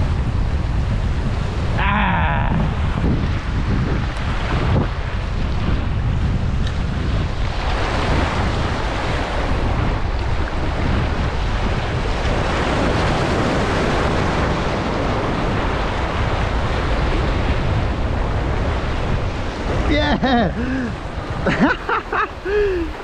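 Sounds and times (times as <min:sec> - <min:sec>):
surf washing over rocks: 0:00.0 - 0:23.0
wind buffeting microphone: 0:00.0 - 0:23.0.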